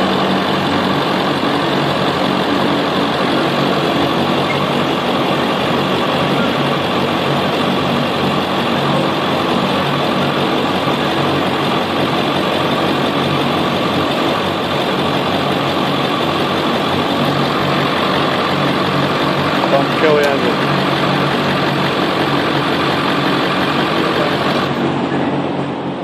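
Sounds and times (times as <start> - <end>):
pickup engine idling: 0.0 - 25.4.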